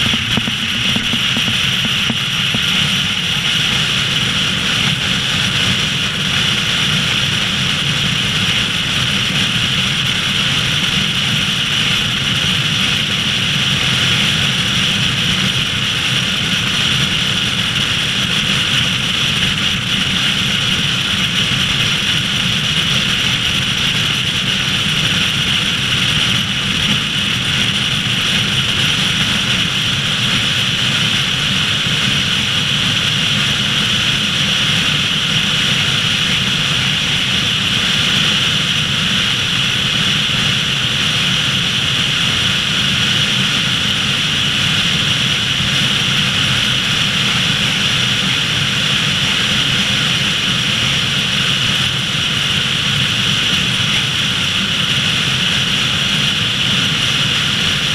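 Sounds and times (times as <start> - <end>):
wind rush and tyre noise: 0.0 - 57.9.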